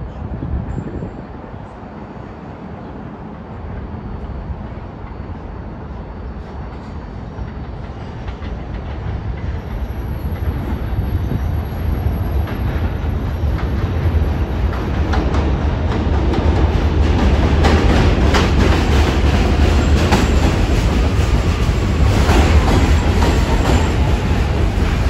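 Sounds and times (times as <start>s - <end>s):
subway train wheels rumbling: 0.0s - 25.0s.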